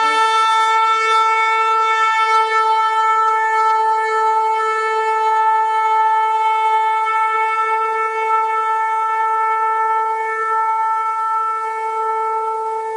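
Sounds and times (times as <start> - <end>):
shofar long held note: 0.0 - 12.9.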